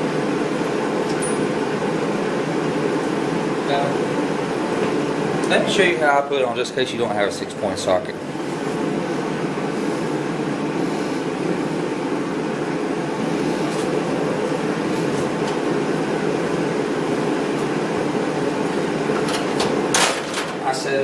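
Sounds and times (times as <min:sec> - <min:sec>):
steady whooshing fan noise: 0:00.0 - 0:21.0.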